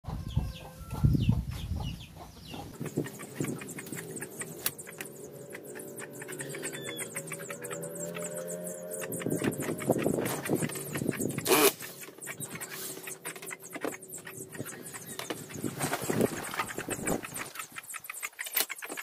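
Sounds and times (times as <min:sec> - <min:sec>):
chickens clucking: 0:00.1 - 0:19.0.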